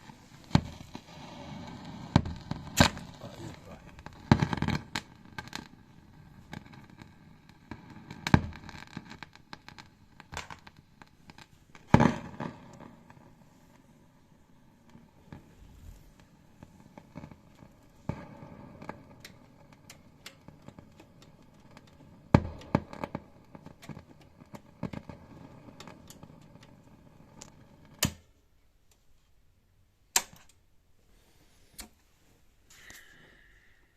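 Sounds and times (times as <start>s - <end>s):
guitar amp crackling and popping: 0.0s - 13.9s, 14.8s - 28.3s
faint amp hum and hiss: 0.0s - 33.9s.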